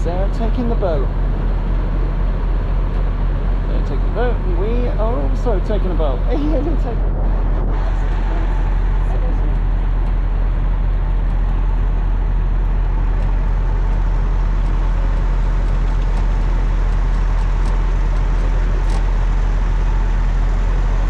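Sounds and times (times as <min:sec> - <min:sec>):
ferry engine droning: 0:00.0 - 0:21.0.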